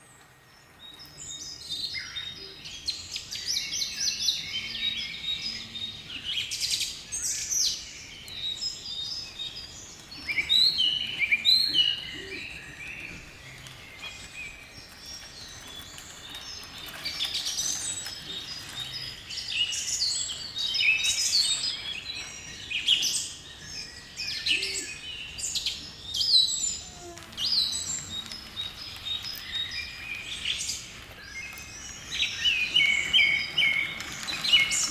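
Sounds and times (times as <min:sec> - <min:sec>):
small birds chirping and singing: 0:00.0 - 0:34.9.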